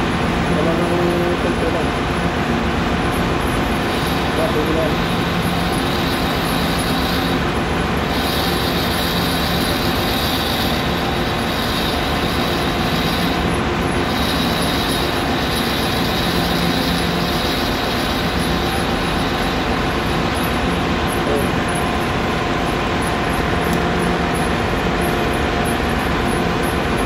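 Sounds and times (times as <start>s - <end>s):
metal lathe running: 0.0s - 27.0s.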